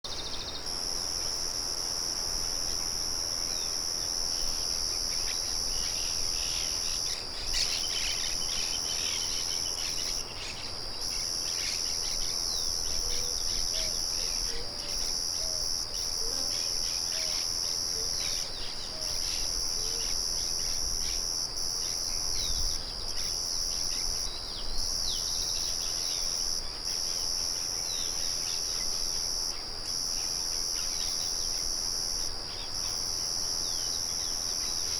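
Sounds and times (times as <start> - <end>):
crickets trilling: 0.1 - 34.9.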